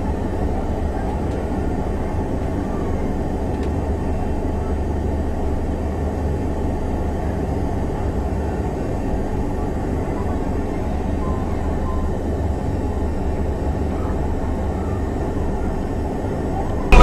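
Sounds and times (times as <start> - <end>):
train carriage rumble and hum: 0.0 - 17.0.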